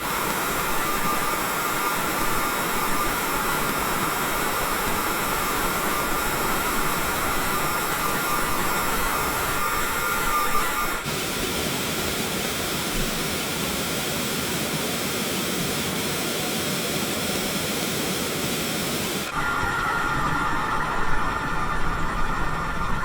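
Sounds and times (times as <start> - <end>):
loud continuous hiss: 0.0 - 23.0
steady machine noise: 0.0 - 23.0
whining machine tones: 0.0 - 23.0.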